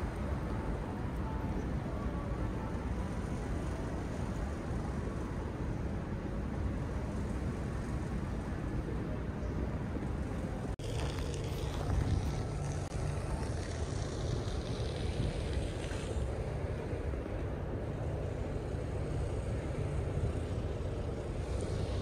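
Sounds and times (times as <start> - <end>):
passing traffic: 0.0 - 22.0
wind rumble on microphone: 0.0 - 22.0.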